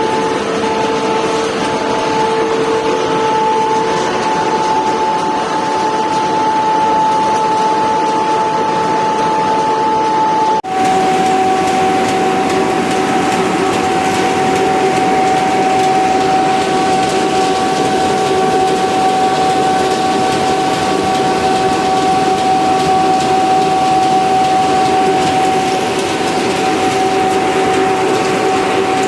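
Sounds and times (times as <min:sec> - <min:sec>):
high-pitched machine whine: 0:00.0 - 0:29.0
sheeting machine humming: 0:00.0 - 0:29.0.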